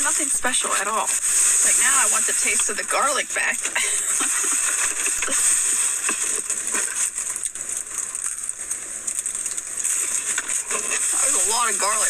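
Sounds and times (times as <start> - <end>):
faint crackles and clicks: 0.0 - 12.0
steady hiss: 0.0 - 12.0.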